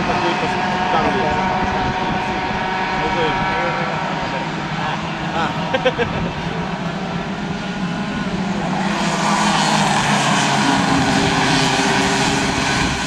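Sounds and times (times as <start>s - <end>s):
kart engines buzzing: 0.0s - 13.0s.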